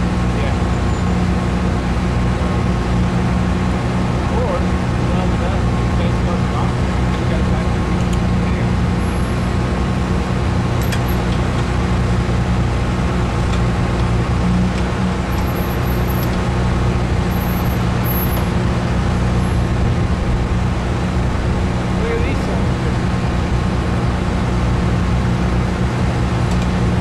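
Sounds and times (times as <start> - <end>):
car engine running at low revs: 0.0 - 27.0.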